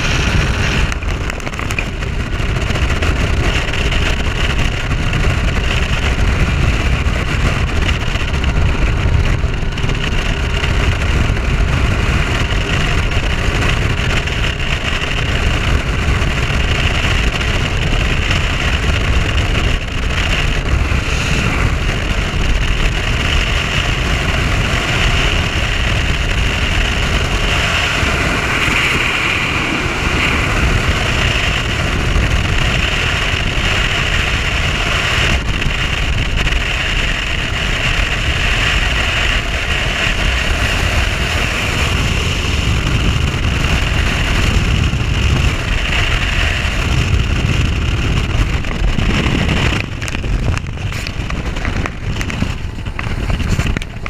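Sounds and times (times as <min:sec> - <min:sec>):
outboard motor running: 0:00.0 - 0:54.0
wind buffeting microphone: 0:00.0 - 0:54.0.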